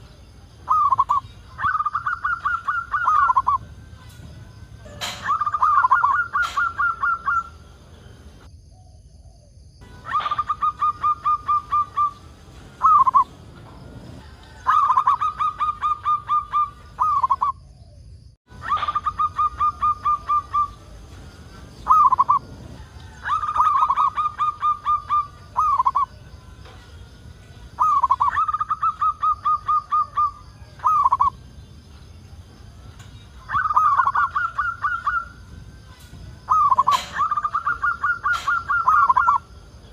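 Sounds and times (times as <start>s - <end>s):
dove cooing: 0.6s - 4.2s, 4.8s - 8.4s, 9.9s - 17.9s, 18.6s - 26.8s, 27.7s - 31.4s, 33.5s - 39.9s.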